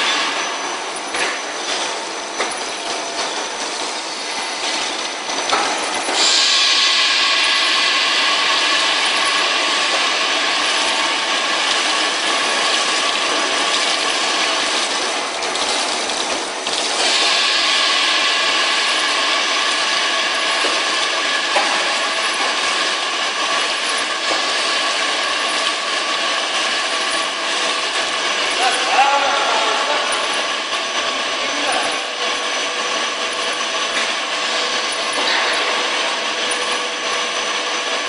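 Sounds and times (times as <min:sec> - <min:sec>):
industrial machinery whirring: 0:00.0 - 0:38.0.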